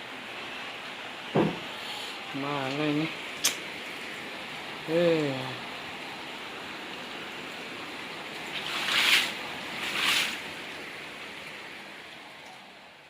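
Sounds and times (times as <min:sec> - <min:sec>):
heavy rain and flood water hissing: 0:00.0 - 0:13.0.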